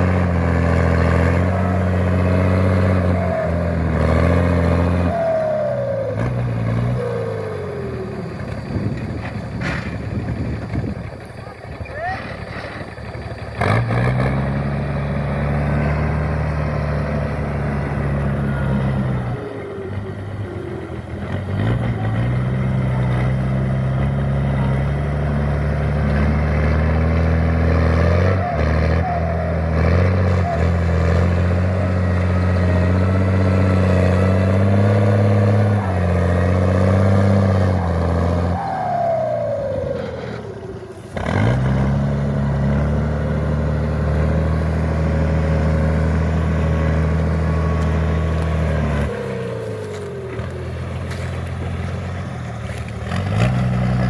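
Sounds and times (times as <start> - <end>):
tractor diesel engine running hard: 0.0 - 54.0.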